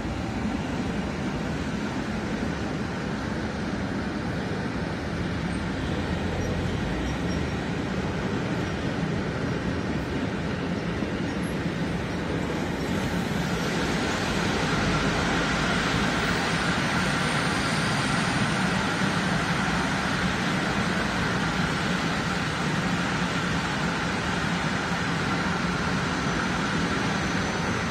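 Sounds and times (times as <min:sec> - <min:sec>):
freight train wheels on rail: 0:00.0 - 0:27.9.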